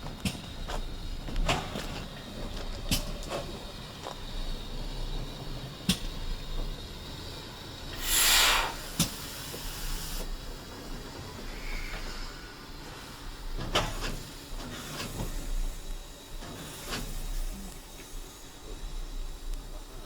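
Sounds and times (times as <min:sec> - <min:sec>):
blast of escaping steam: 0:02.8 - 0:20.0.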